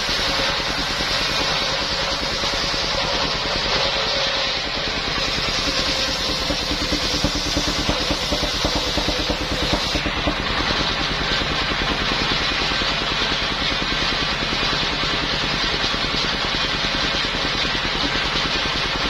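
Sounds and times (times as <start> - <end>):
engine-driven circular saw running: 0.0 - 19.0.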